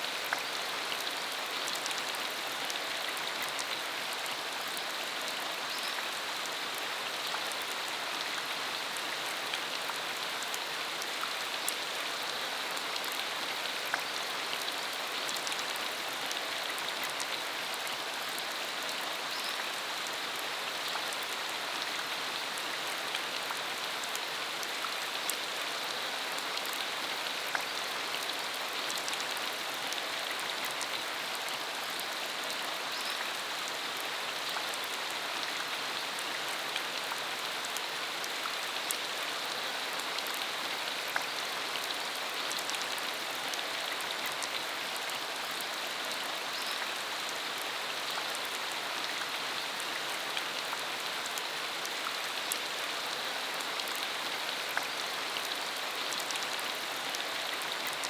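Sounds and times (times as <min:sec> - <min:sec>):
rain falling on dirt road: 0:00.0 - 0:58.0.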